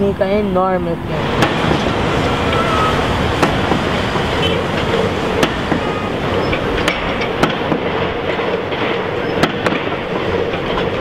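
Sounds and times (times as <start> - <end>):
vehicle rumble with low hum: 0.0 - 11.0.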